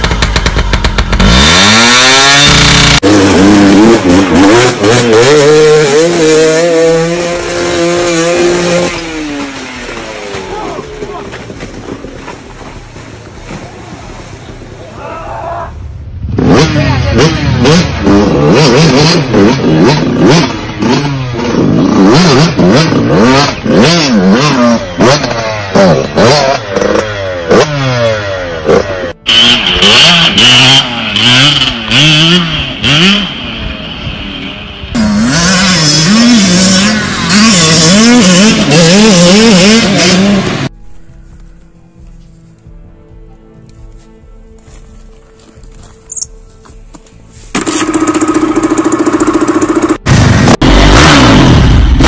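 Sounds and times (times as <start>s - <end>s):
dirt bike engines revving: 0.0s - 12.5s, 15.7s - 40.7s, 47.5s - 52.0s.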